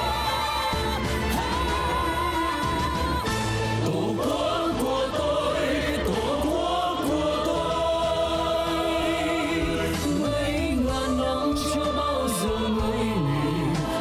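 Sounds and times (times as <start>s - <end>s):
group singing with instruments: 0.0s - 14.0s.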